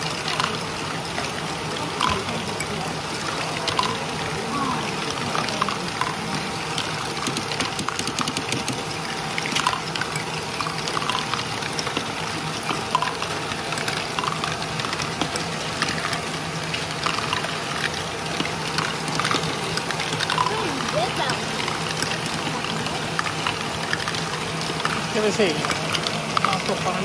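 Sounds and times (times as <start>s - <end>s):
motors humming: 0.0s - 27.0s.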